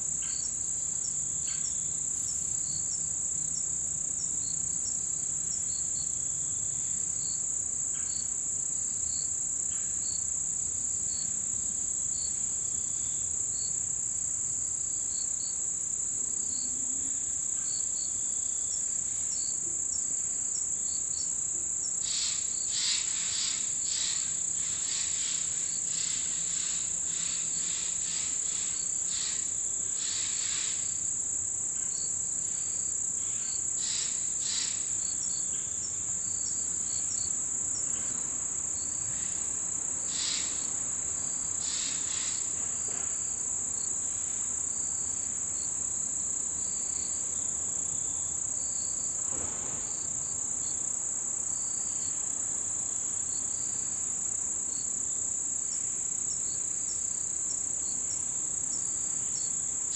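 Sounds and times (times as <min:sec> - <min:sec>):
insects chirring drone: 0:00.0 - 0:59.9.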